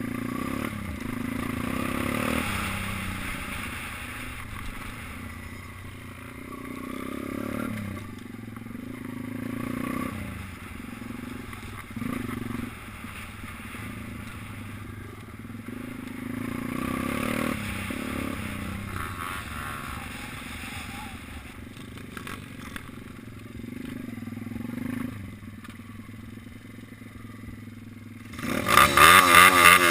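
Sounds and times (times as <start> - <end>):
small engine revving: 0.0 - 26.3, 28.2 - 29.9.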